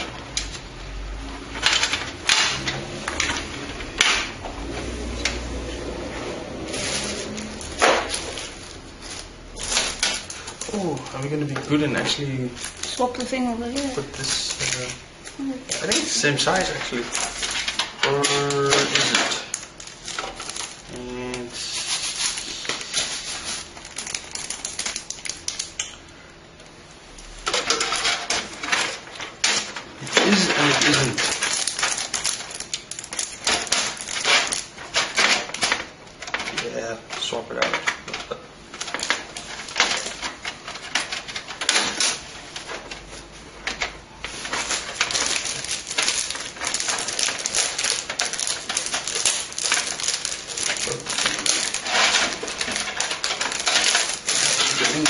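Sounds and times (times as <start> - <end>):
clicks and rustles of plastic: 1.4 - 5.6, 6.5 - 26.7, 27.4 - 55.0.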